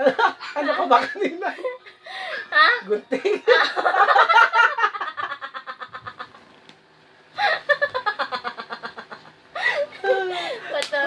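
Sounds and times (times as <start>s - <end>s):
man and woman laughing: 0.0s - 6.5s, 7.4s - 11.0s.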